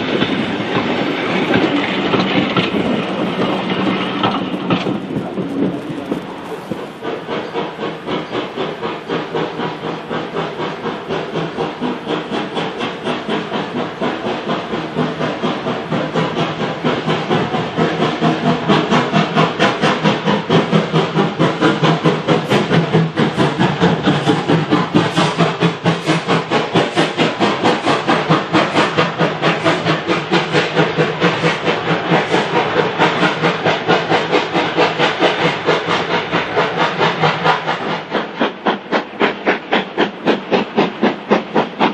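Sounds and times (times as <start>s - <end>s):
steam locomotive exhaust chuffing: 0.0s - 41.9s.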